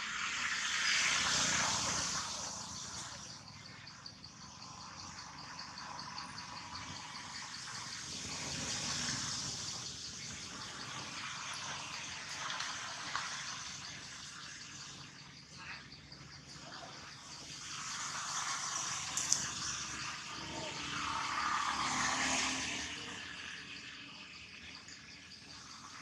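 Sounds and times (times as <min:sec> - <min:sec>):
fast pulsing insect chirp: 0:00.0 - 0:26.0
insect chorus buzzing: 0:00.0 - 0:26.0.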